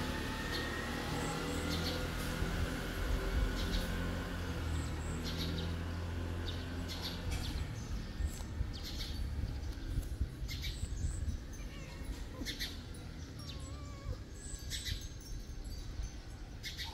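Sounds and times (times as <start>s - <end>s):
small birds chirping: 0.2s - 16.9s.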